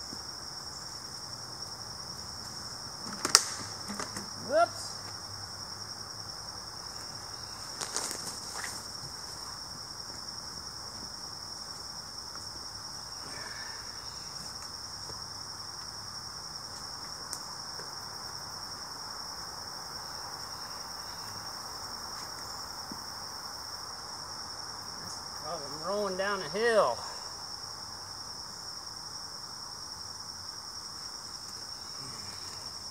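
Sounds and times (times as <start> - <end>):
insects chorus: 0.0 - 32.9.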